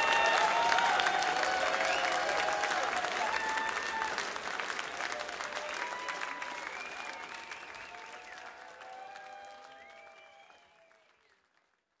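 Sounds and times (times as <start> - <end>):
held calls from audience: 0.0 - 10.6
audience applauding and cheering: 0.0 - 12.0.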